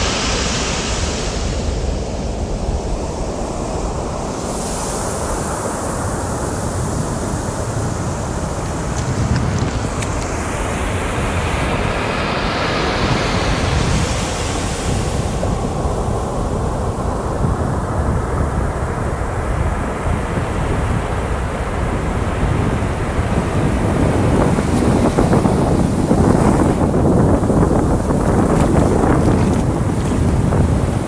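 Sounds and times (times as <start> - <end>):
ocean surf: 0.0 - 31.0
wave washing in with hiss: 0.0 - 31.0
wind buffeting microphone: 0.0 - 31.0.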